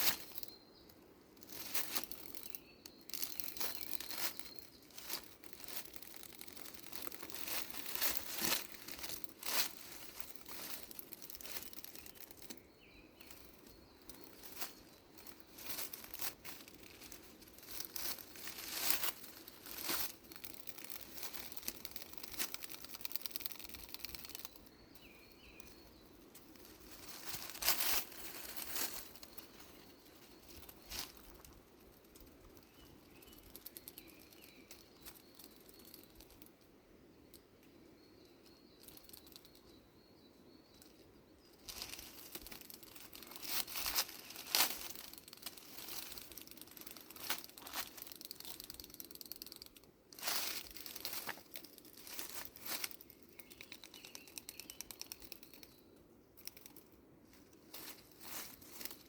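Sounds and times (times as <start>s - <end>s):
dry leaves rustling and crackling: 0.0s - 0.6s, 1.4s - 36.4s, 41.6s - 53.8s, 57.6s - 59.0s
faint bird chirps: 0.0s - 59.0s.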